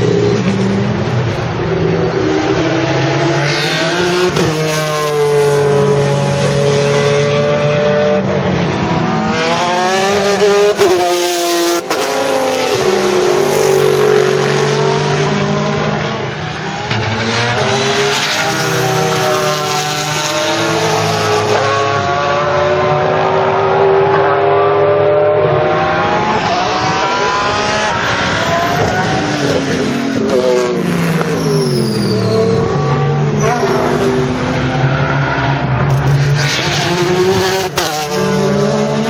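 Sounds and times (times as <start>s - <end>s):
race car engine at full throttle: 0.0s - 39.0s.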